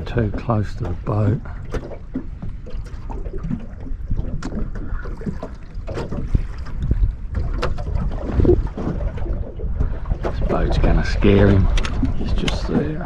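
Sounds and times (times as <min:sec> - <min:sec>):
water slapping against boat hull: 0:00.0 - 0:13.0
wind rumble on microphone: 0:00.0 - 0:13.0.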